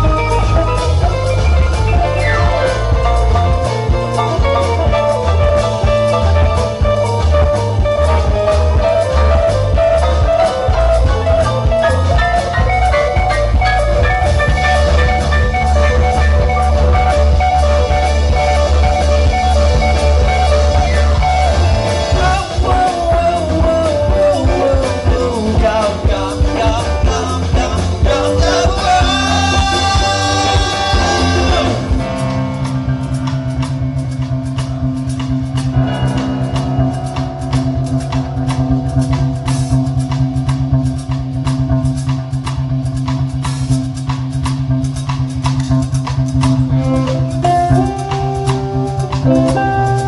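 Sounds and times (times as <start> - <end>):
bending lead guitar melody: 0.0 - 50.0
live rock band playing: 0.0 - 50.0.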